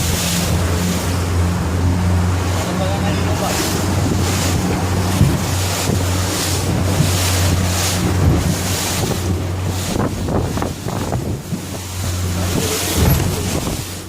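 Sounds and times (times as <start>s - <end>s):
boat engine humming: 0.0s - 14.0s
waves washing: 0.0s - 14.0s
wind buffeting microphone: 0.0s - 14.0s.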